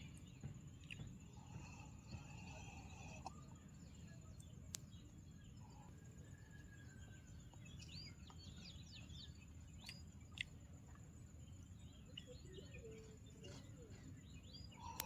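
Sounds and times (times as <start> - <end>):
faint bird chirps: 0.0 - 15.0
low steady background noise: 0.0 - 15.0.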